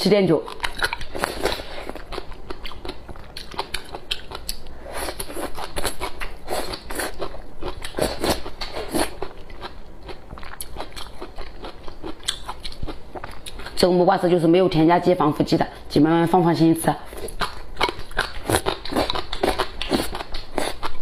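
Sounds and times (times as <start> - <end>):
chewing with wet mouth clicks: 0.4 - 13.8, 17.2 - 21.0.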